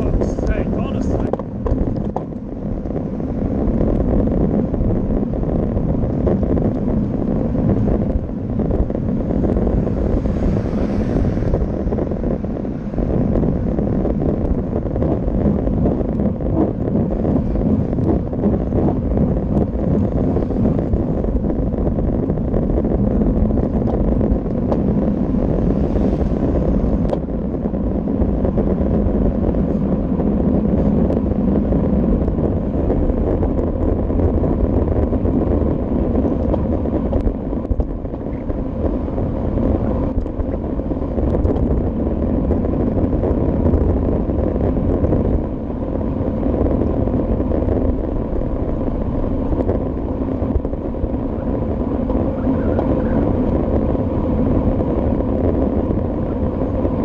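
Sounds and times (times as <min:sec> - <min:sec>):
tyre and road noise: 0:00.0 - 0:57.0
wind buffeting microphone: 0:00.0 - 0:57.0.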